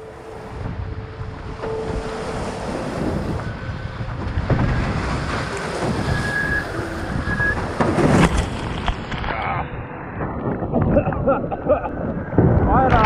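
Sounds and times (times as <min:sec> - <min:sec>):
water rushing past hulls: 0:00.0 - 0:13.0
wind buffeting microphone: 0:00.0 - 0:13.0.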